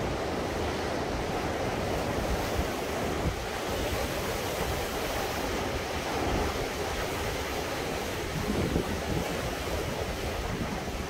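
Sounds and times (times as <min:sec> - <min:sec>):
sea waves: 0:00.0 - 0:11.0
wind buffeting microphone: 0:00.0 - 0:11.0.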